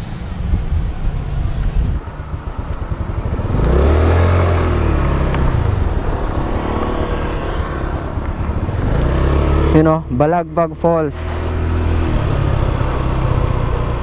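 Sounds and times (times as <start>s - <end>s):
motor scooter engine: 0.0s - 14.0s.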